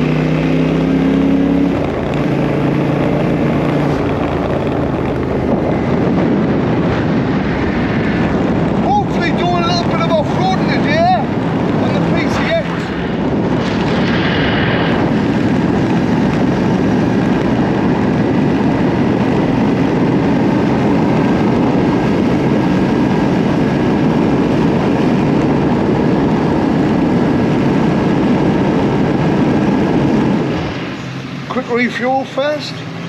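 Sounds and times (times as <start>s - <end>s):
motorcycle engine running: 0.0s - 12.2s, 12.8s - 33.0s.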